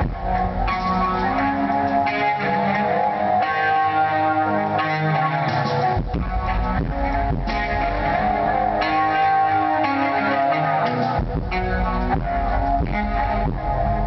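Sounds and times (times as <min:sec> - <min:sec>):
bass guitar: 0:00.0 - 0:14.0
sustained electric guitar notes: 0:00.0 - 0:14.0.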